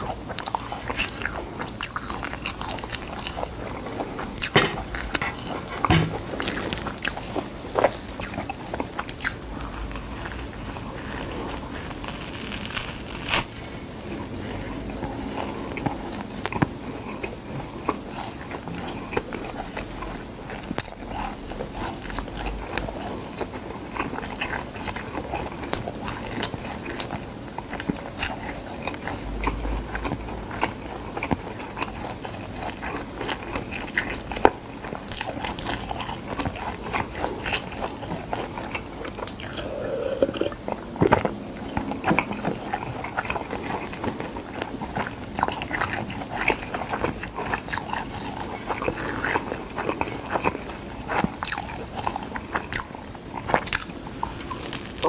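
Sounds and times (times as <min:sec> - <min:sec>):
chewing crisp seaweed: 0:00.0 - 0:55.0.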